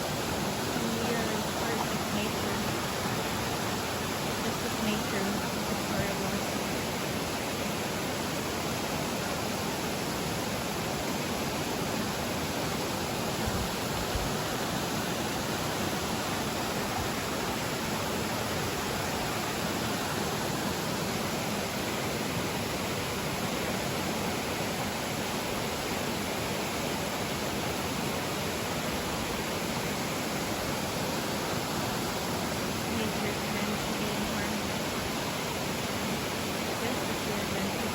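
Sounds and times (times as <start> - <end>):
rushing water: 0.0 - 37.9.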